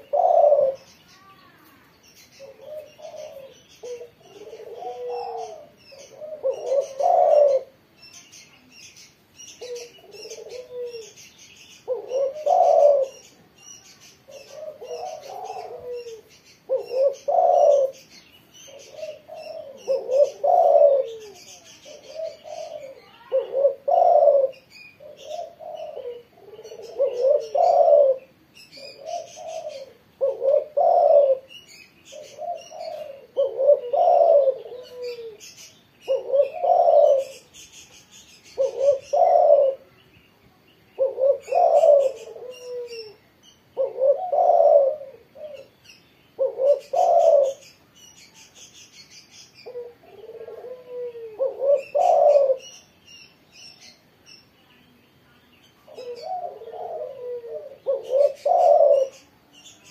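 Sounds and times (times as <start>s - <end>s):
dove cooing: 0.0s - 39.9s, 41.0s - 52.9s, 55.8s - 59.9s
small birds chirping: 0.0s - 59.9s.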